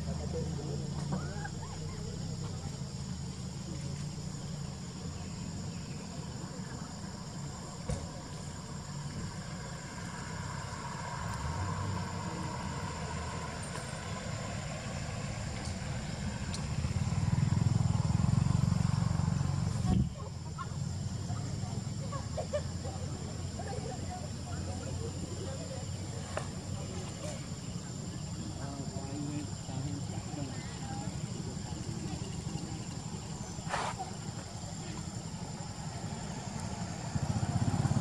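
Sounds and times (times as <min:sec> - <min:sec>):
people talking in background: 0:00.0 - 0:19.0, 0:19.6 - 0:38.0.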